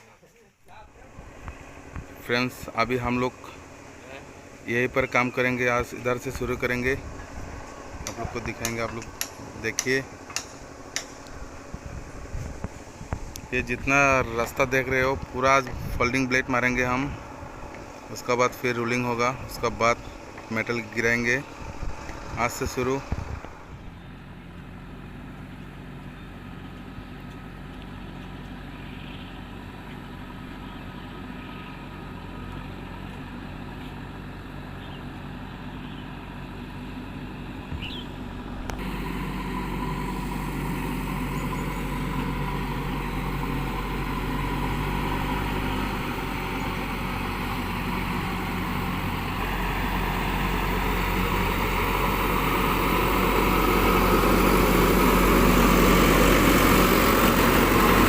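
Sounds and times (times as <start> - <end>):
heavy diesel engine running: 0.6 - 58.0.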